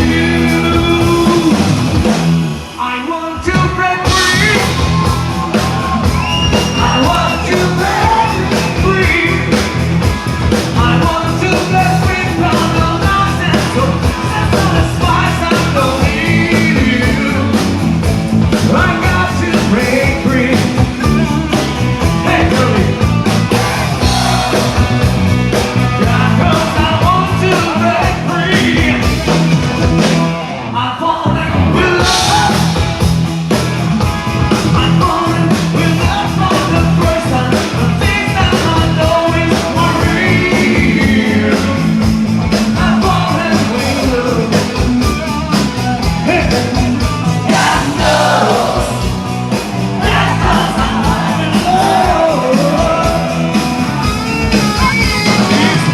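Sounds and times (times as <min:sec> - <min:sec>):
person singing: 0:00.0 - 0:01.8, 0:02.8 - 0:09.6, 0:10.8 - 0:17.8, 0:18.6 - 0:25.2, 0:25.9 - 0:29.4, 0:30.5 - 0:32.9, 0:34.5 - 0:49.1, 0:49.9 - 0:53.6
rock band playing: 0:00.0 - 0:55.9.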